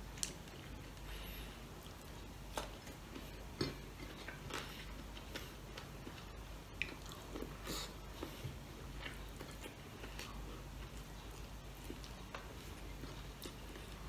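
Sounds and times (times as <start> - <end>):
man chewing food: 0.0 - 14.0.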